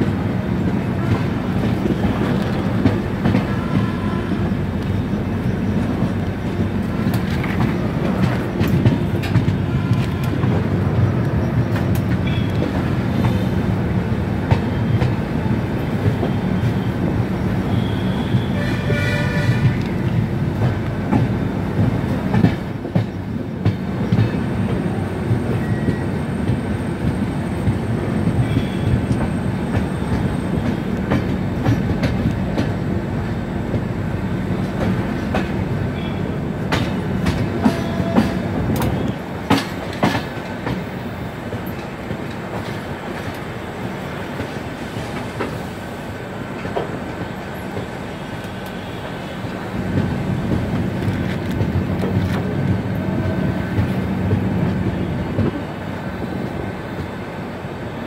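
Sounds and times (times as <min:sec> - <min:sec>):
train rumbling on track: 0:00.0 - 0:58.0.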